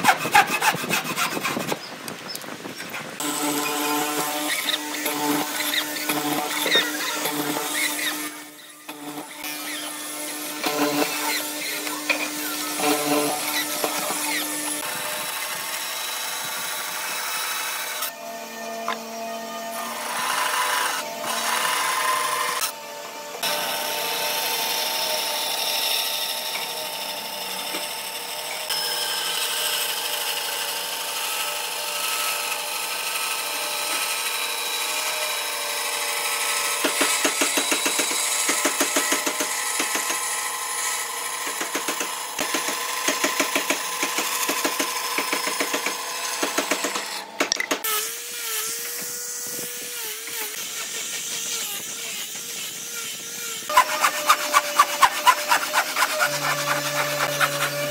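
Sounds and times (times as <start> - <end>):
power tools working wood: 0.0 - 57.9.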